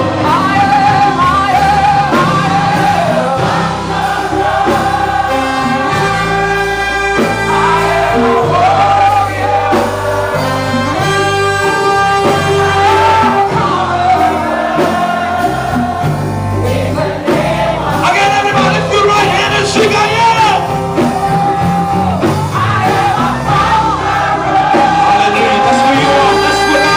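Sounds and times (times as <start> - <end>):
gospel singing over a band: 0.0 - 26.9.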